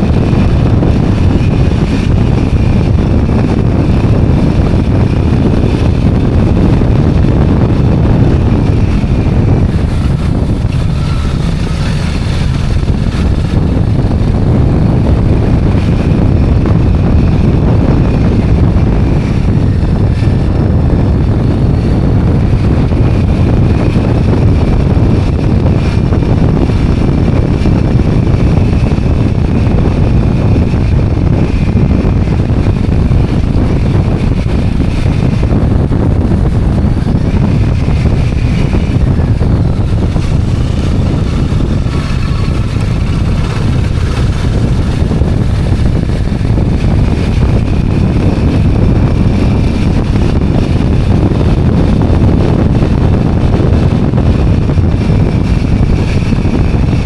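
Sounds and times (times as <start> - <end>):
motorbike and traffic: 0.0 - 57.0
wind buffeting microphone: 0.0 - 57.0.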